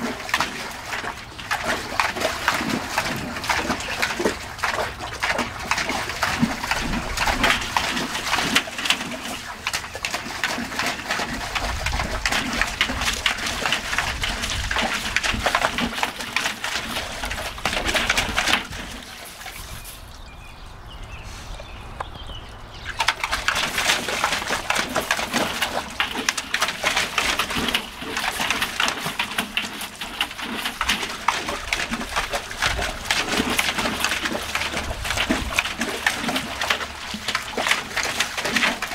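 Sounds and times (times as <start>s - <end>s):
water splashing in metal tub: 0.0s - 21.0s, 22.5s - 38.9s.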